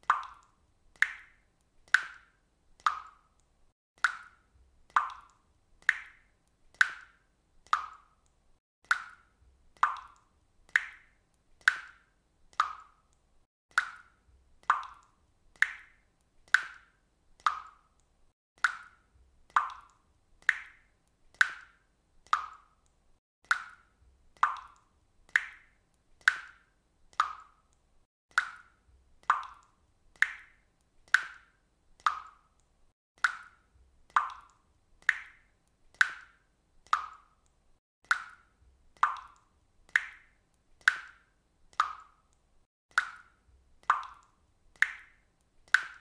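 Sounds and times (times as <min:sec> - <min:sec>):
water dripping from faucet: 0:00.0 - 0:46.0.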